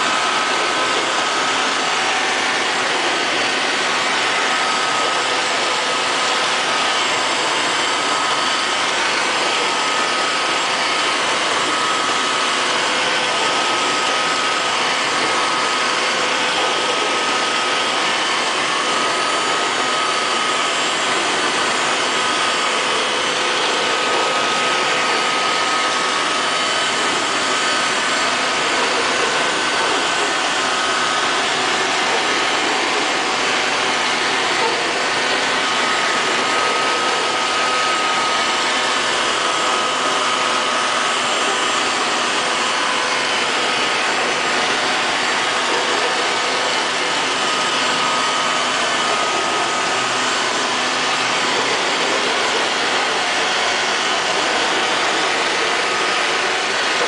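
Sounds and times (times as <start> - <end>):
robot vacuum cleaner whirring: 0.0 - 57.0.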